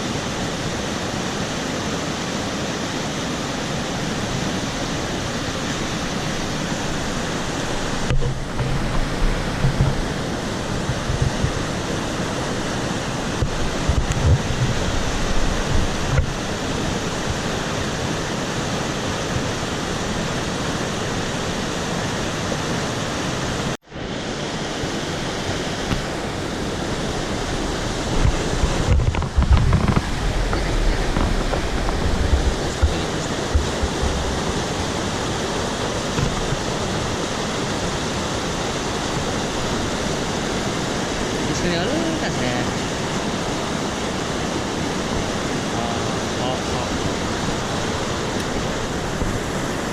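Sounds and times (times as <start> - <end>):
mountain stream rushing: 0.0 - 49.9
wind buffeting microphone: 3.8 - 22.4, 24.8 - 49.9.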